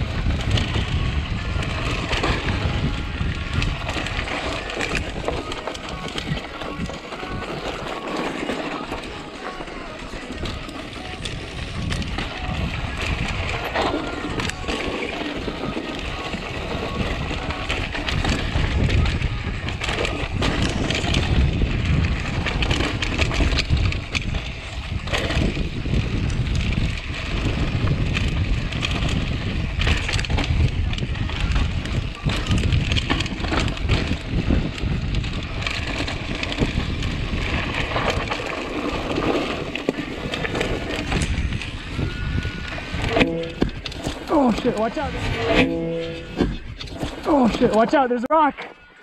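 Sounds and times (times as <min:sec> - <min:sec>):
wind buffeting microphone: 0:00.0 - 0:47.9
bike rattling over bumps: 0:00.0 - 0:48.4
tyres on dirt and stones: 0:00.0 - 0:49.0.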